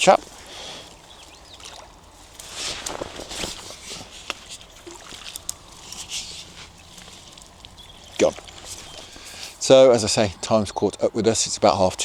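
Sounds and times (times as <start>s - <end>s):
river water splashing: 0.0s - 12.0s.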